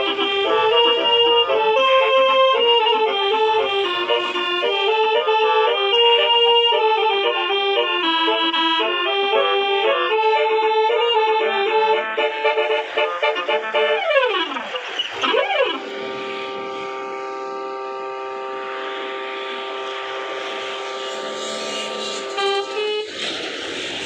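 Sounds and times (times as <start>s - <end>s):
multi-tone bus horn tune: 0.0s - 23.4s.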